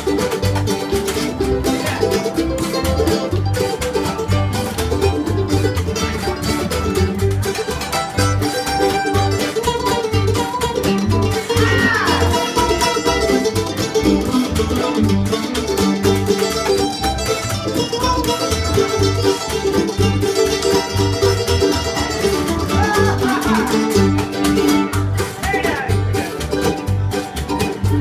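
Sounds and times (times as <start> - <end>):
plucked strings: 0.0 - 28.0
strummed acoustic guitar: 0.0 - 28.0
upright bass plucking: 0.0 - 28.0.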